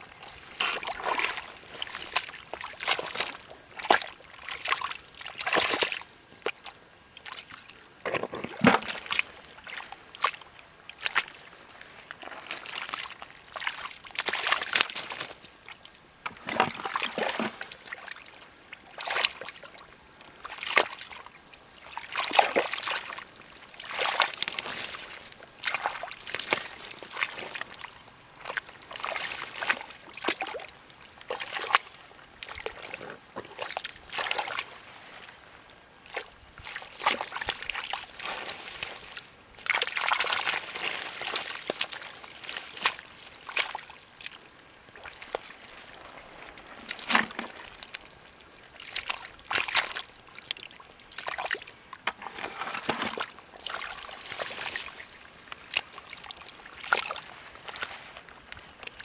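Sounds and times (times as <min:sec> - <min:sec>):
hands sloshing in muddy water: 0:00.0 - 0:15.8, 0:16.4 - 0:59.0.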